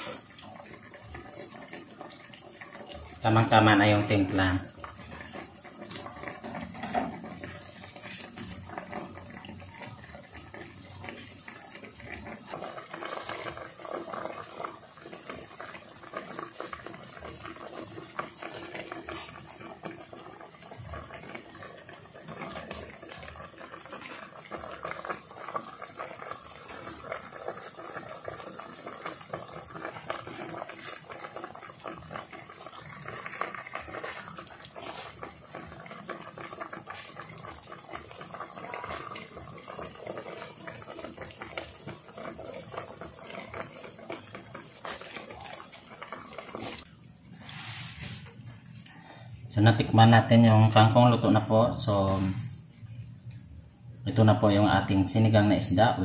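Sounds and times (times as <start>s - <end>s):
broth boiling with bubbles popping: 0.0s - 56.0s.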